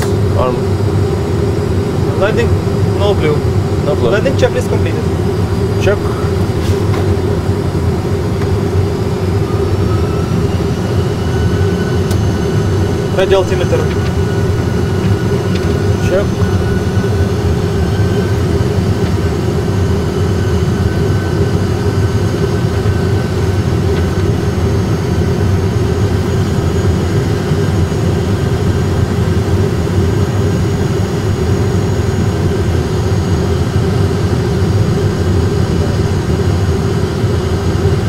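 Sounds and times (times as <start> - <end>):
airflow and jet engines rumbling: 0.0 - 38.0.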